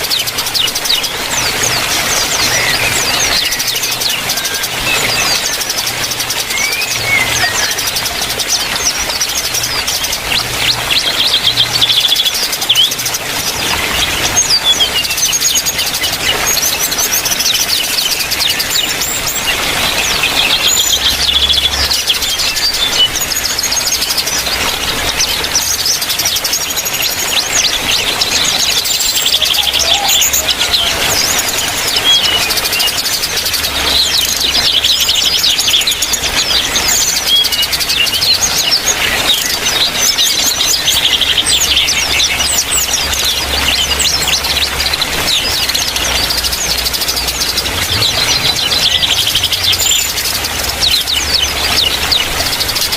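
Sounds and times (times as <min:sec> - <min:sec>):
birds chirping and twittering: 0:00.0 - 0:52.9.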